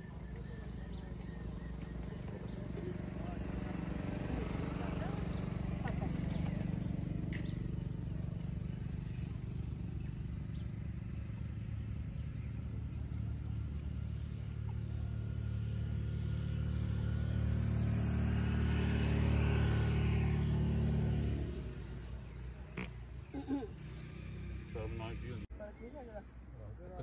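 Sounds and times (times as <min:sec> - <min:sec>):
vehicle engine humming: 0:00.0 - 0:26.1.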